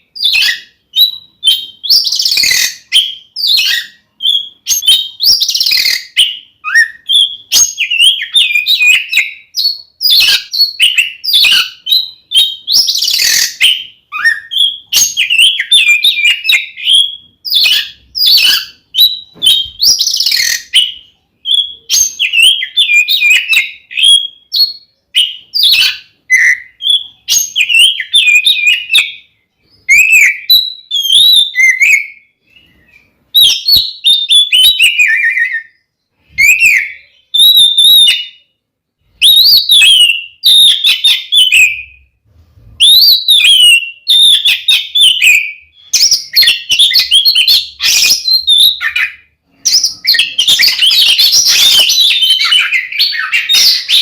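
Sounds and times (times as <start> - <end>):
bird singing whistled phrases: 0.0 - 38.5, 39.2 - 42.1, 42.8 - 54.0.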